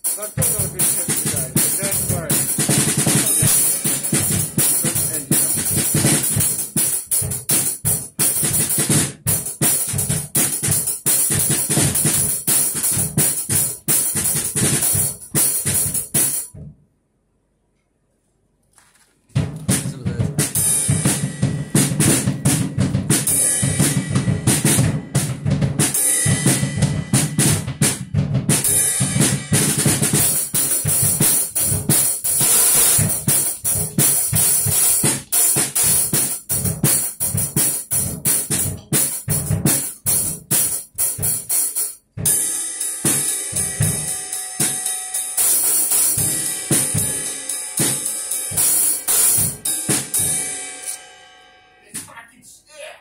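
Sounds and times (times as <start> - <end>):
music with loud drum kit: 0.0 - 16.6, 19.4 - 51.3.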